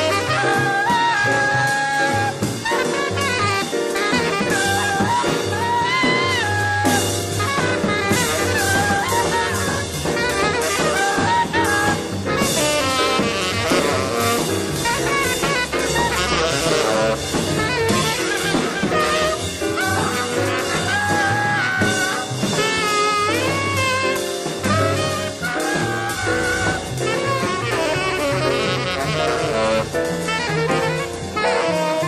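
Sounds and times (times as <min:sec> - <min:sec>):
drums and bass: 0:00.0 - 0:32.0
saxophones and trumpets: 0:00.0 - 0:32.0.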